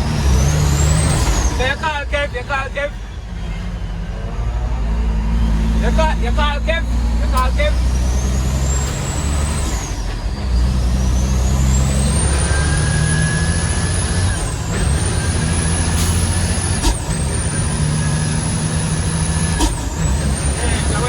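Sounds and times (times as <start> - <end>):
diesel truck engine: 0.0 - 21.0.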